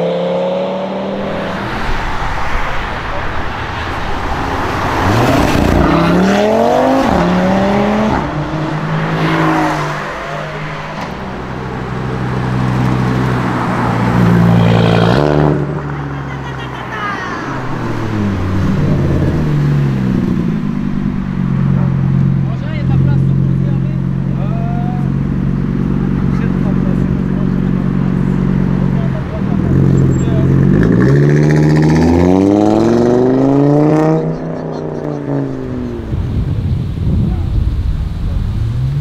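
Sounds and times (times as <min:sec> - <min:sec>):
car engines accelerating hard: 0:00.0 - 0:39.0
car revving and passing: 0:00.0 - 0:39.0.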